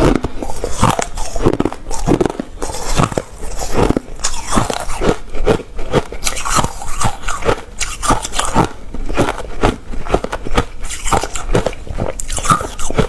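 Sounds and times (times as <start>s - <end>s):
chewing crunchy ice: 0.0s - 13.0s.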